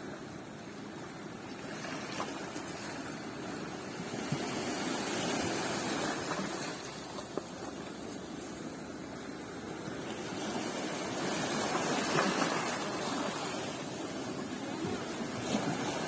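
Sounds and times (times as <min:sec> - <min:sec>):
sea waves washing onto beach: 0:00.0 - 0:16.0.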